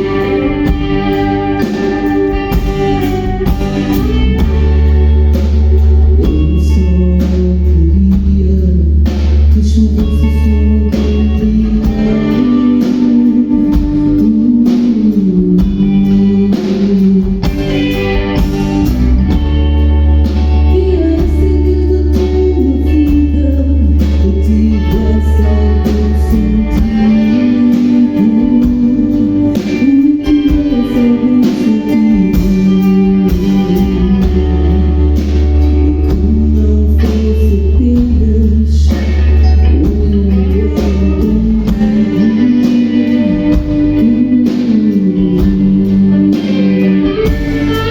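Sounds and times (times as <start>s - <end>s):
long low bass notes: 0.0s - 47.9s
person singing: 0.0s - 47.9s
rock band playing live: 0.0s - 47.9s.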